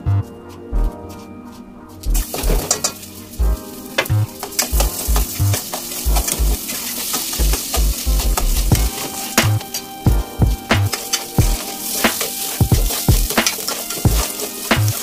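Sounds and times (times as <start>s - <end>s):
music with deep bass beat: 0.0s - 1.3s, 2.0s - 15.0s
rice sizzling in oil: 2.3s - 15.0s.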